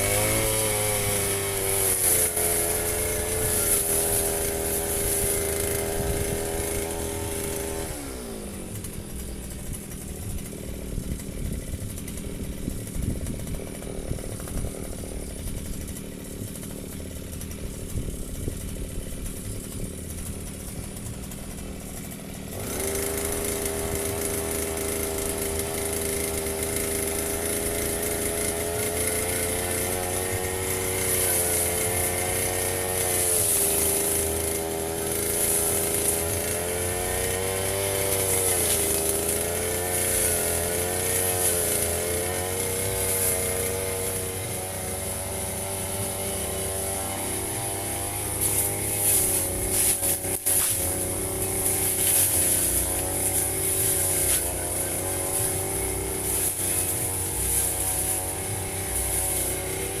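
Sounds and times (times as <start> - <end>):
brush cutter engine revving: 0.0 - 60.0.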